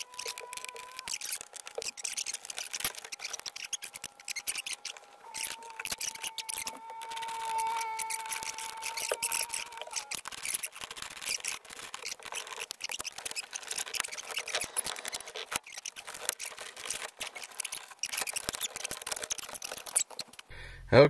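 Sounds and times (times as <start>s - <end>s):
hard plastic clicking and scraping: 0.0s - 20.5s.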